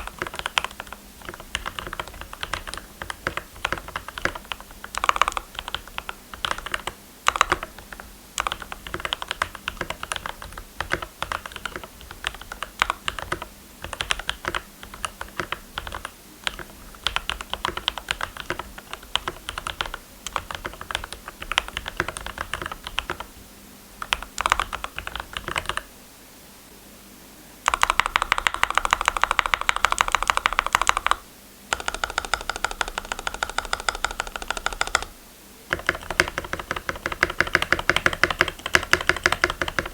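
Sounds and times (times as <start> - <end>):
keyboard typing: 0.0 - 23.4, 24.0 - 25.9, 27.6 - 35.1, 35.7 - 39.9.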